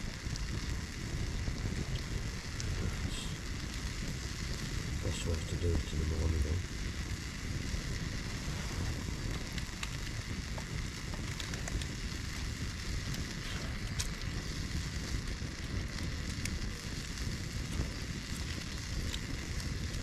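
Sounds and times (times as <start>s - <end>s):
campfire crackling and popping: 0.0s - 20.0s
fire low rush: 0.0s - 20.0s.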